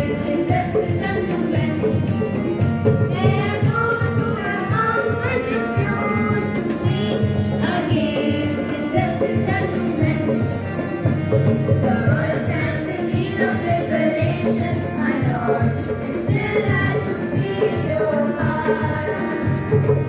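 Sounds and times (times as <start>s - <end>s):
steady percussion beat: 0.0s - 20.0s.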